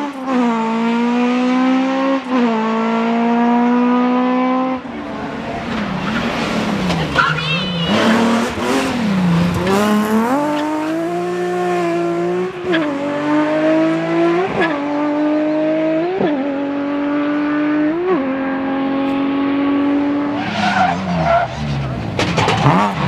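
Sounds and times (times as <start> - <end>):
rally car engine upshifting: 0.0 - 23.0.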